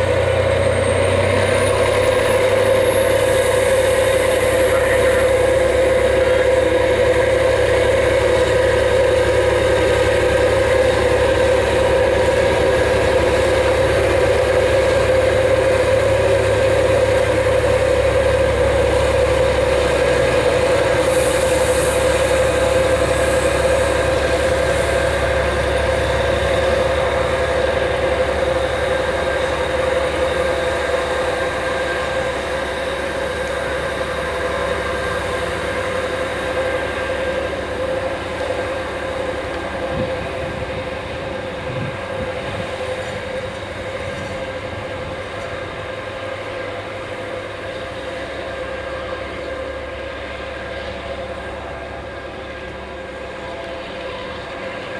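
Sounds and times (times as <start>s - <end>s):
rail noise: 0.0s - 54.9s
train humming: 0.0s - 54.9s.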